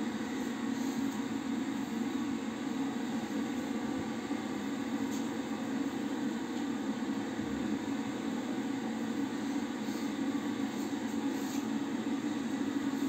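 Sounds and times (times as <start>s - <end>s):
extractor fan running: 0.0s - 13.0s.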